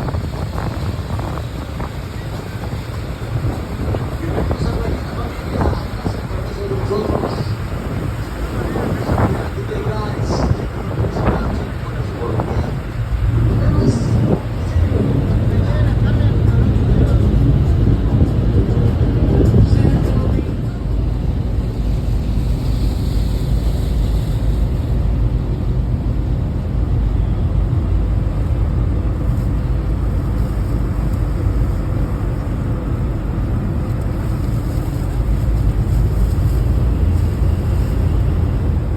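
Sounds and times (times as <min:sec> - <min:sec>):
motorboat engine rumble: 0:00.0 - 0:38.9.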